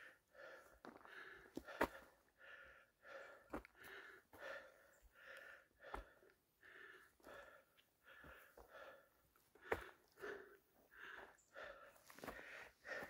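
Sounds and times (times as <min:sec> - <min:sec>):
heavy breathing: 0:00.0 - 0:13.0
footsteps on rocky path: 0:00.4 - 0:02.2, 0:03.0 - 0:06.4, 0:07.2 - 0:13.0.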